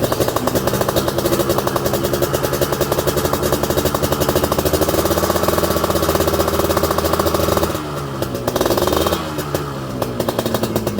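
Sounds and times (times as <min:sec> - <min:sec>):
two-stroke motorcycle engine revving: 0:00.0 - 0:10.9.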